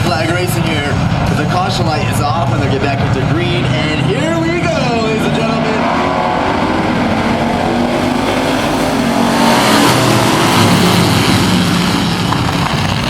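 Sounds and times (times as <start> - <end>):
race truck engines revving: 0.0 - 13.0.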